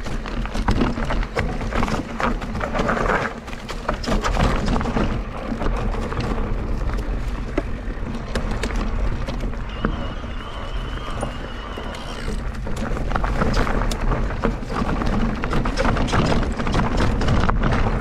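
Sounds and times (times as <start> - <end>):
bike rattling and knocking: 0.0 - 18.0
tyres on dirt and stones: 0.0 - 18.0
wind rumbling on microphone: 0.0 - 18.0.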